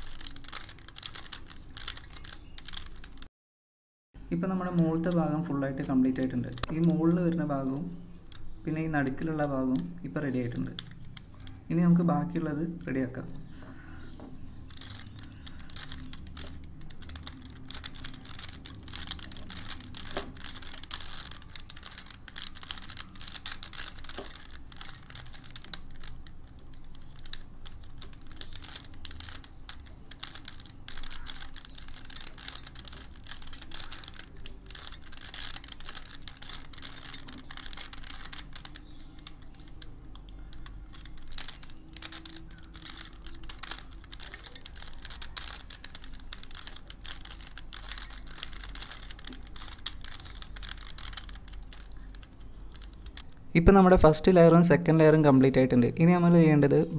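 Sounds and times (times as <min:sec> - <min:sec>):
plastic puzzle cube clicking: 0:00.0 - 0:03.3, 0:08.1 - 0:11.8, 0:14.4 - 0:53.4.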